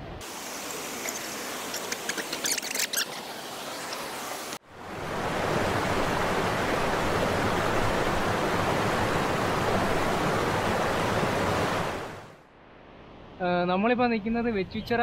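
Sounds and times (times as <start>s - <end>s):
water rushing over rocks: 0.2s - 12.4s.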